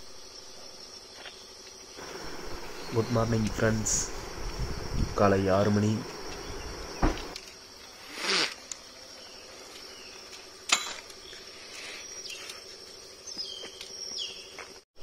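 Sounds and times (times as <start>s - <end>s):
high-pitched insect drone: 0.0s - 14.6s.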